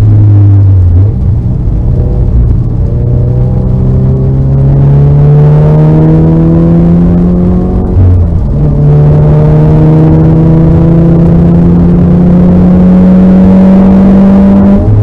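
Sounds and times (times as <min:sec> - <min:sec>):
car engine accelerating through gears: 0:00.0 - 0:15.0.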